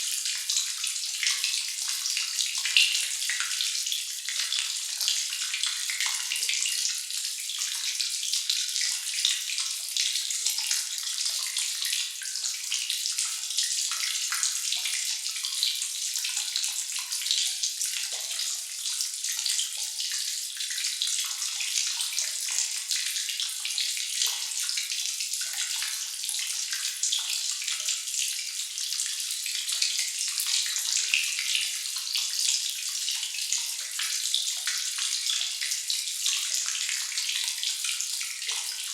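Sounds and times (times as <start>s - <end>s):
water dripping: 0.0s - 38.9s.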